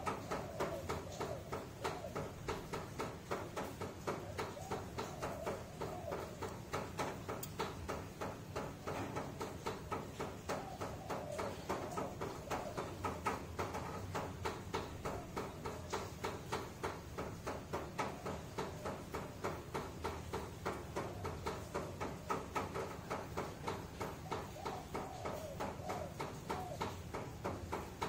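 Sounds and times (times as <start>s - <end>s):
rhythmic ticking: 0.0s - 28.0s.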